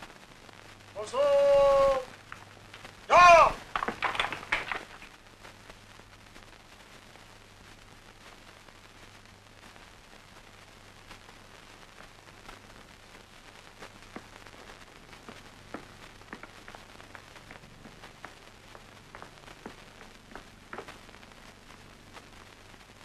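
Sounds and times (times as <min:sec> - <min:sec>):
film soundtrack hiss and hum: 0:00.0 - 0:23.0
sharp crackles: 0:00.0 - 0:23.0.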